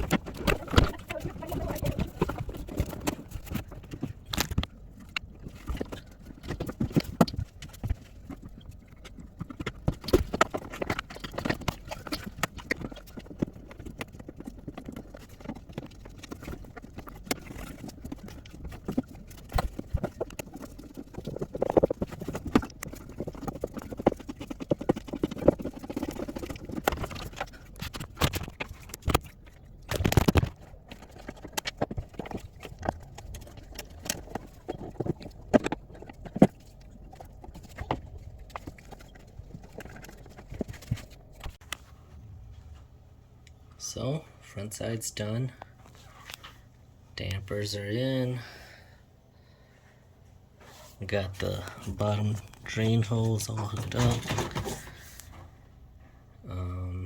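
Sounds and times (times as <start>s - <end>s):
clatter of hand tools and parts: 0.0s - 41.8s, 50.7s - 55.6s.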